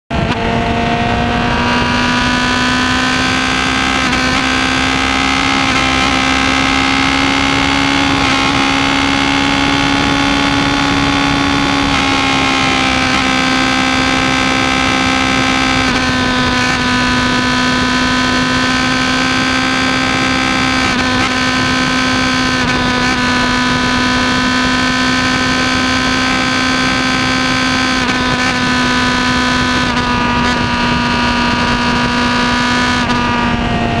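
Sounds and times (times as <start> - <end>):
motorcycle engine running: 0.1 - 34.0.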